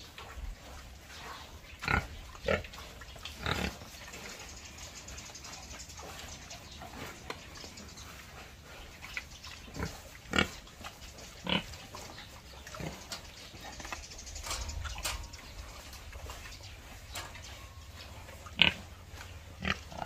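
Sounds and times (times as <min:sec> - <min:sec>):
pigs grunting: 0:00.0 - 0:20.0.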